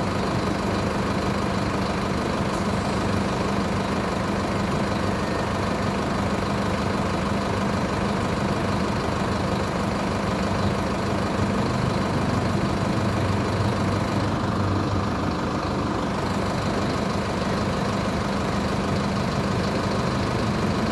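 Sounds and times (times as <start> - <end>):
bus diesel engine idling: 0.0 - 20.9.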